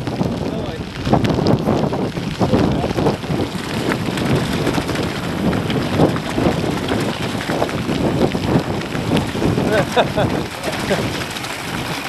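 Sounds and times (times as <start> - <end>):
bike rattling: 0.0 - 12.0
bike tyres crunching on gravel: 0.0 - 12.0
wind buffeting microphone: 0.0 - 12.0.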